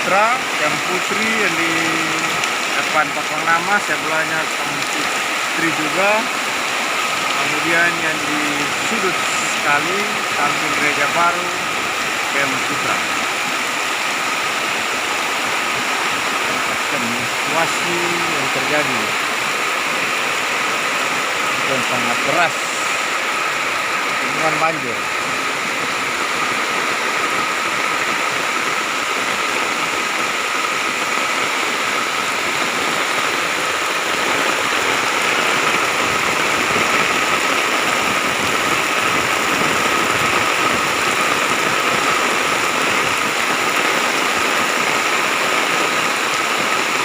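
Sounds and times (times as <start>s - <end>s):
heavy rain pouring: 0.0s - 47.0s
rushing floodwater: 0.0s - 47.0s.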